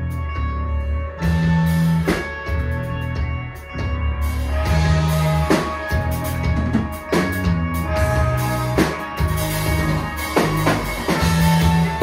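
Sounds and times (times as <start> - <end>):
electric bass: 0.0 - 12.0
electric guitar: 0.0 - 12.0.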